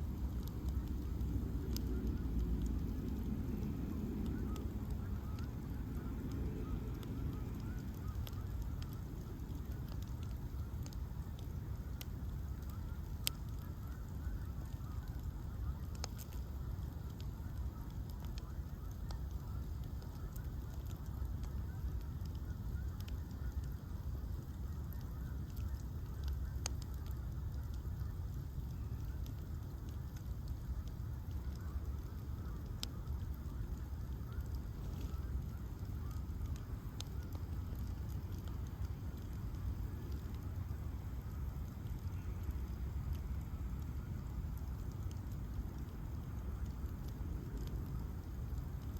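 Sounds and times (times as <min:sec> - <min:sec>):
bonfire crackling and popping: 0:00.0 - 0:48.9.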